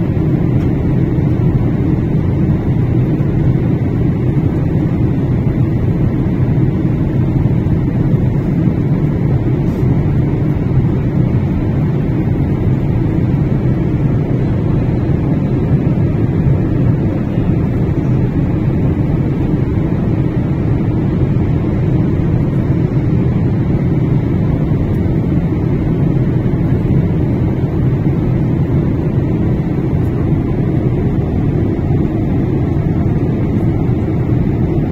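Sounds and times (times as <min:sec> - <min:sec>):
airliner cabin roar: 0:00.0 - 0:34.9.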